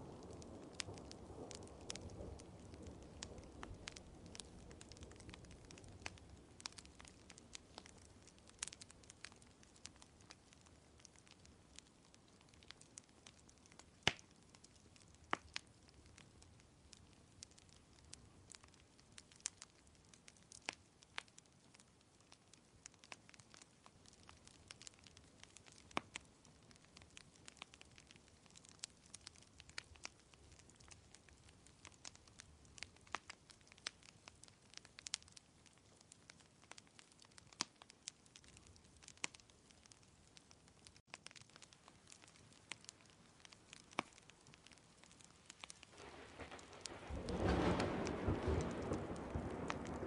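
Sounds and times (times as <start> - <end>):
faint low hiss: 0.0 - 50.0
wood fire crackling: 0.0 - 50.0.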